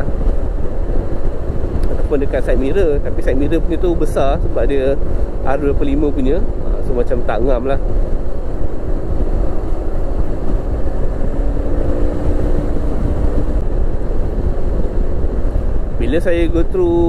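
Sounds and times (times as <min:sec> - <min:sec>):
faint scooter engine hum: 0:00.0 - 0:17.0
road noise: 0:00.0 - 0:17.0
wind rumble on microphone: 0:00.0 - 0:17.0.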